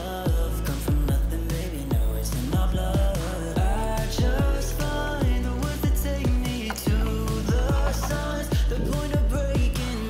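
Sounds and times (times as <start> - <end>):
pop music: 0.0 - 10.0.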